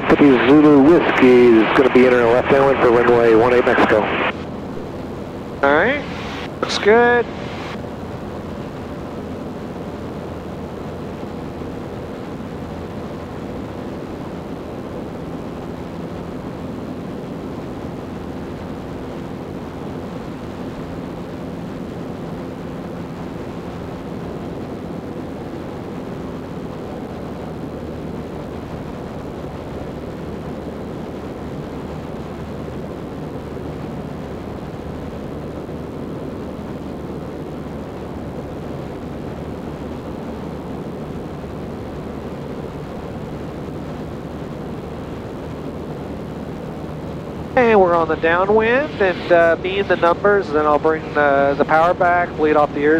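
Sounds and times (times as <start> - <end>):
light aircraft engine drone: 0.0 - 52.9.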